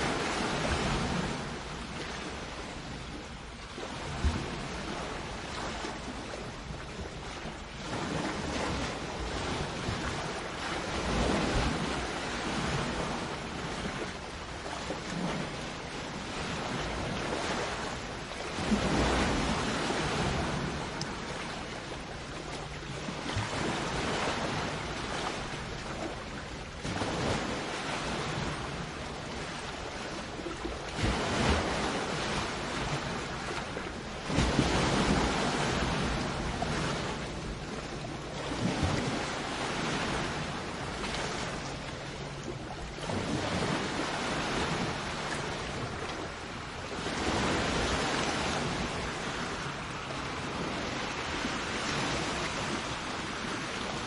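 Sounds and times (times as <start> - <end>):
sea waves breaking on shore: 0.0 - 54.0
wind buffeting microphone: 0.0 - 54.0.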